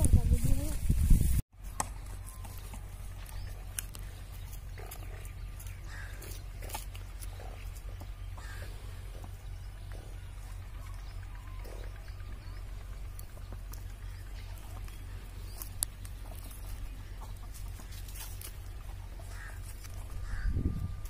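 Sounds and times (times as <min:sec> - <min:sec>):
steady low hum: 0:01.8 - 0:21.0
low rumble: 0:02.2 - 0:21.0
hens clucking: 0:03.7 - 0:20.7.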